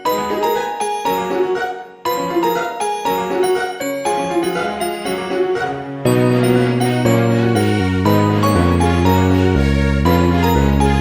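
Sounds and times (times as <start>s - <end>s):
light mallet melody over keyboard: 2.1s - 11.0s.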